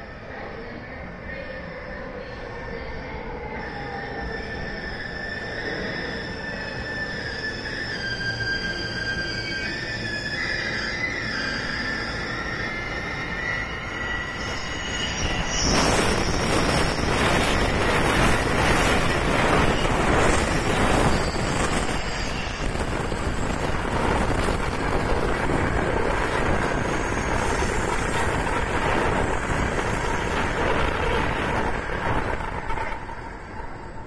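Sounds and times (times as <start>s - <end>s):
high-speed train rushing past: 0.0s - 34.0s.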